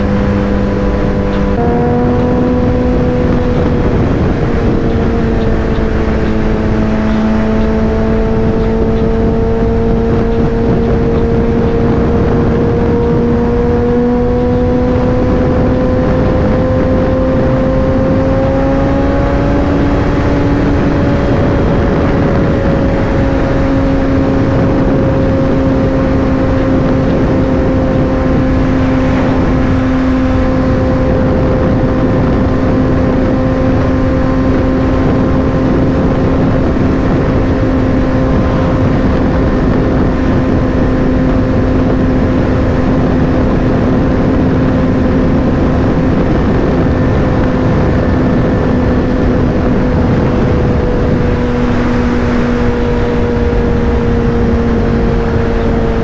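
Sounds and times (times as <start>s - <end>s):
motorcycle engine cruising: 0.0s - 56.0s
wind rush: 0.0s - 56.0s.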